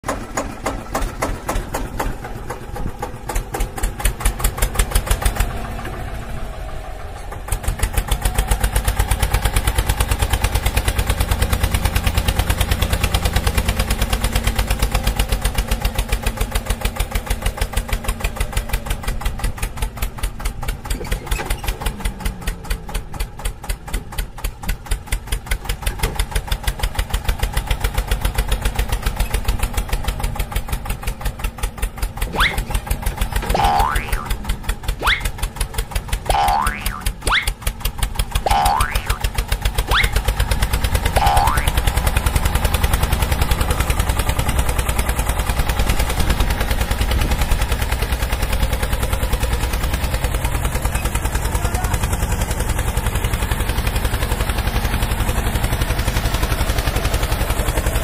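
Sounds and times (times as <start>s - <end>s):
tractor engine chugging: 0.0s - 58.0s.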